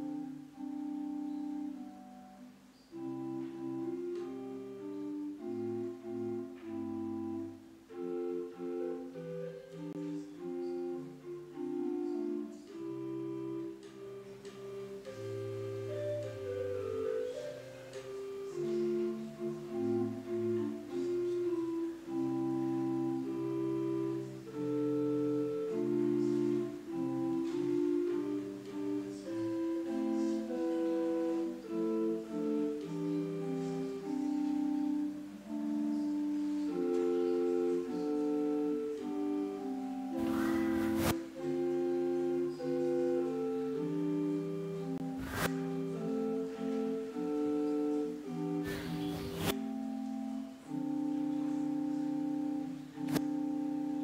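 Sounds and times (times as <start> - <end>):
slow keyboard music: 0.0 - 54.0.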